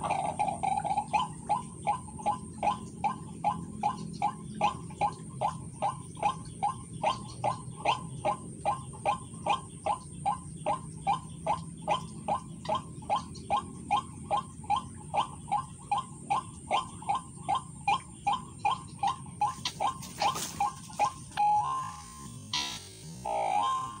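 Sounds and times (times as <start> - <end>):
bird harsh repeated call: 3.8 - 24.0.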